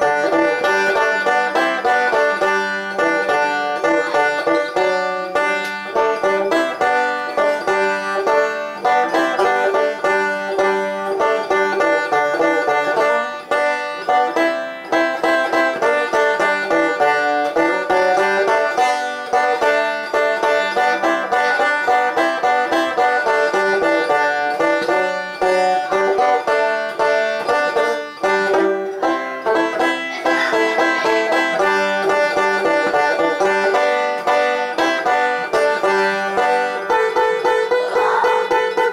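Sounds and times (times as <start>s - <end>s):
banjo picking: 0.0s - 38.9s.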